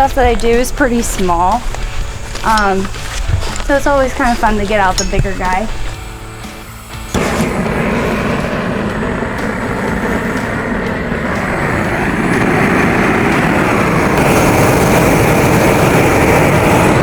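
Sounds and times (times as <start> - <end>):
burner torch rushing: 0.0 - 17.0.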